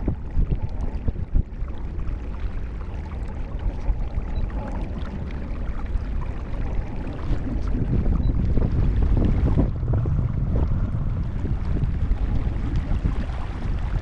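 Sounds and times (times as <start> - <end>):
small water splashes: 0.0 - 14.0
water and wind rumble: 0.0 - 14.0.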